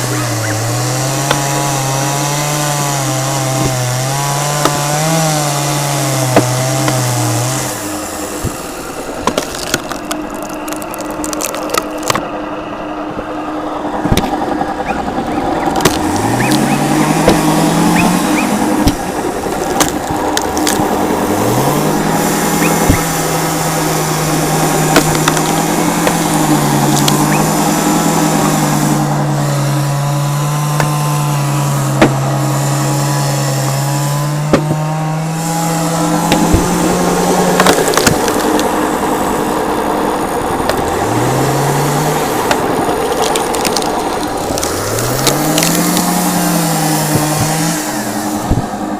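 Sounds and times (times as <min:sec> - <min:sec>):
chainsaw cutting wood: 0:00.0 - 0:12.4, 0:13.1 - 0:48.9
wood cracking and splintering: 0:00.0 - 0:12.4, 0:13.1 - 0:48.9.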